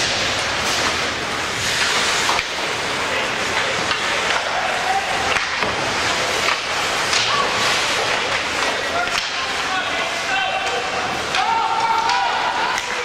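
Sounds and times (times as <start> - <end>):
indoor hall game noise: 0.0 - 13.0.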